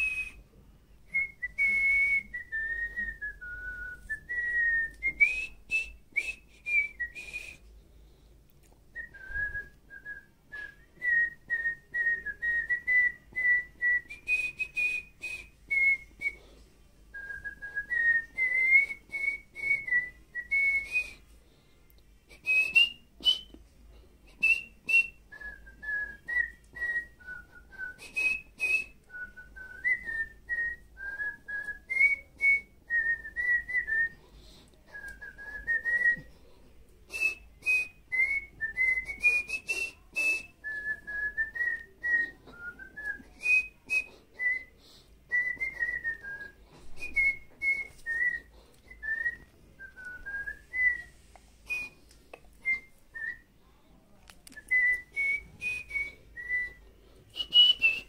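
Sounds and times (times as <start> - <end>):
person whistling a melody: 0.0 - 0.5, 1.1 - 7.7, 8.9 - 16.4, 17.1 - 21.3, 22.3 - 23.6, 24.3 - 34.2, 34.8 - 36.3, 37.1 - 53.5, 54.5 - 58.0.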